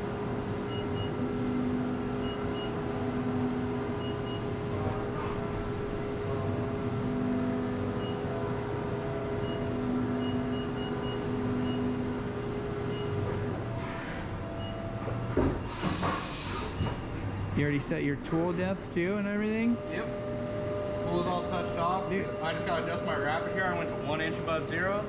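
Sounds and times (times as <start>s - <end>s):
low motor hum: 0.0s - 15.7s, 16.7s - 25.0s
milling machine humming: 0.0s - 25.0s.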